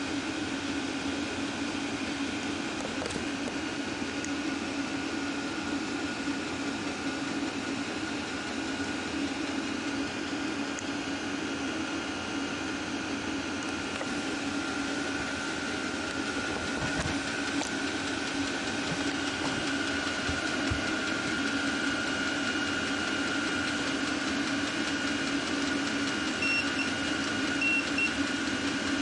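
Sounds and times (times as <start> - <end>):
air heater humming with whine: 0.0 - 29.0.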